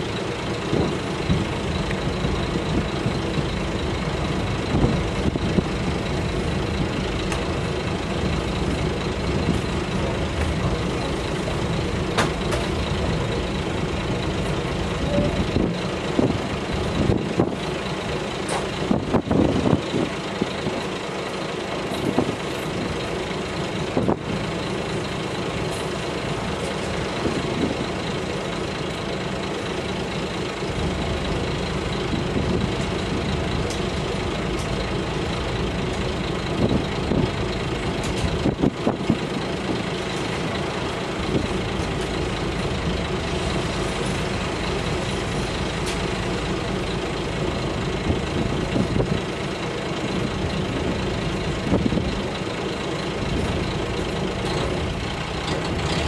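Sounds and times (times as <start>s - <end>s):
diesel railcar running: 0.0s - 56.0s.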